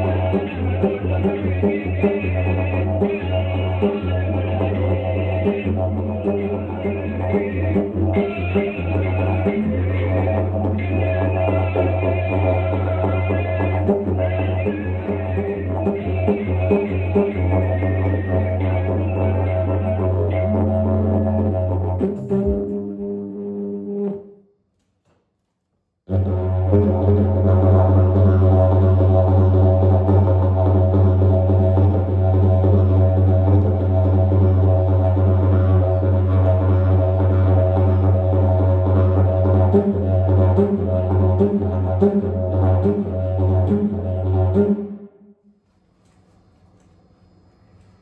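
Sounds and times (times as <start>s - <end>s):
didgeridoo drone: 0.0s - 24.1s, 26.1s - 45.1s.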